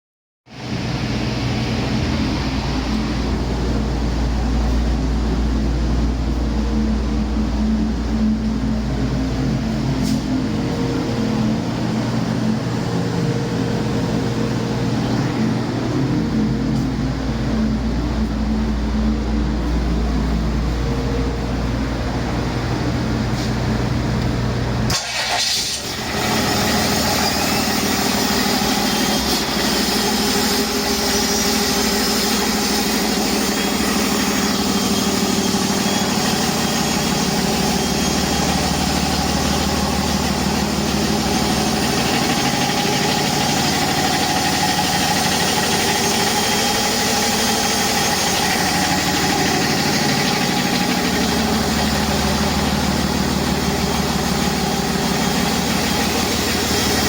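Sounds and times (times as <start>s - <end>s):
diesel engine running: 0.5s - 57.0s.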